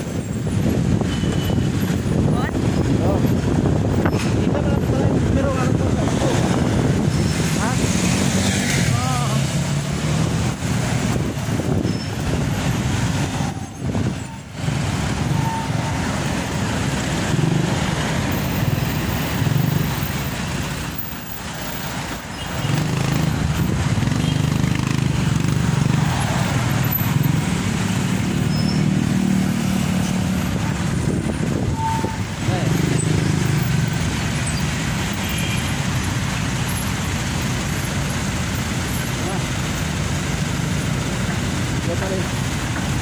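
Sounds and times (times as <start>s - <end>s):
city traffic noise: 0.0s - 43.0s.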